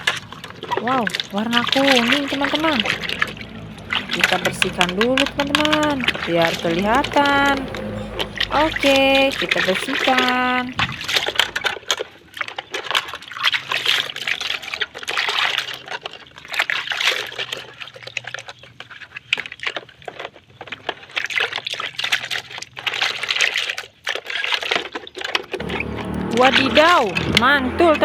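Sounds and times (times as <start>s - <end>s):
water pouring and splashing: 0.0s - 28.0s.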